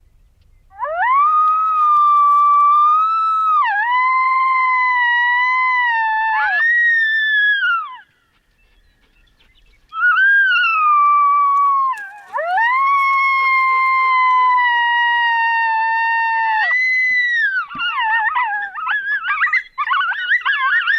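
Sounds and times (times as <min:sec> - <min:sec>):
coyotes howling: 0:00.7 - 0:08.1, 0:09.9 - 0:20.9.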